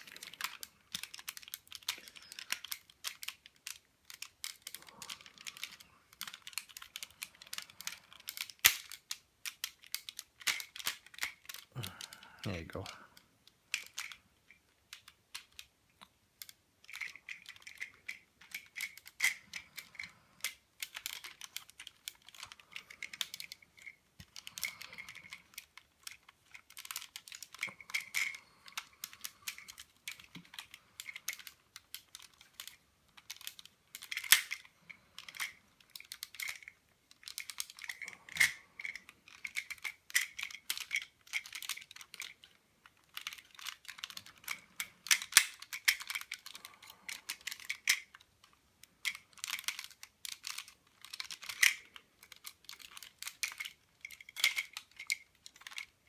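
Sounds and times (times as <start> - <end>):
plastic toy parts clicking: 0.0 - 56.0.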